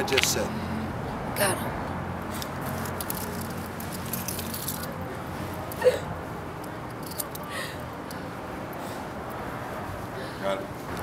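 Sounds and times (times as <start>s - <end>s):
urban background noise: 0.0s - 11.0s.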